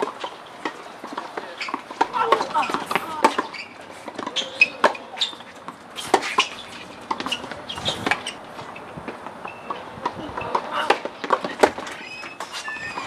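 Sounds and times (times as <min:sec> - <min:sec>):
tennis balls struck by rackets: 0:00.0 - 0:12.5
tennis balls bouncing on hard court: 0:00.0 - 0:13.0.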